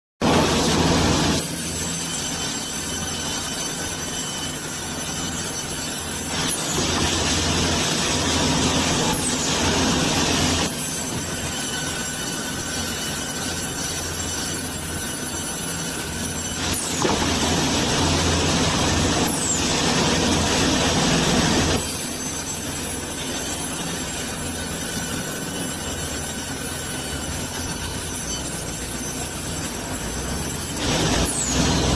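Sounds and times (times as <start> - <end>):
band saw cutting log with whine: 0.2 - 31.9.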